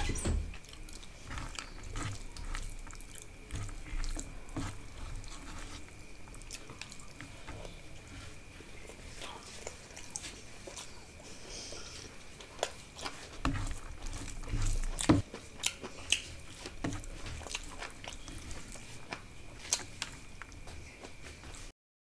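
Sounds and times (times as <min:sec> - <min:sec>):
person chewing food: 0:00.5 - 0:21.7.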